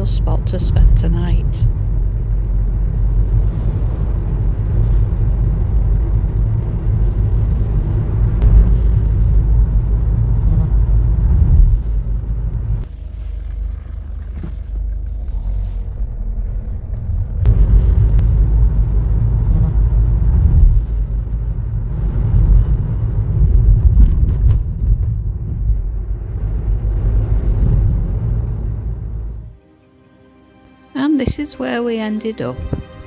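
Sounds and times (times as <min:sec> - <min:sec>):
van road and engine rumble: 0:00.0 - 0:30.1.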